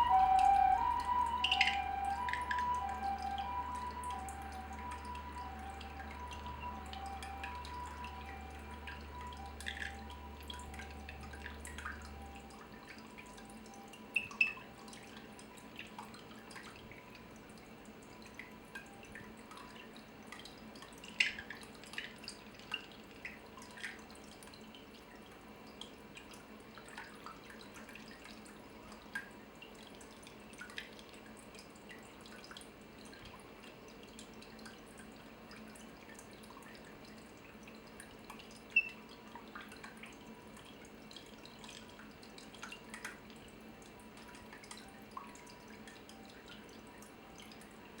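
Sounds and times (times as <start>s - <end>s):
faint steady hum: 0.0s - 48.0s
water dripping: 0.0s - 48.0s.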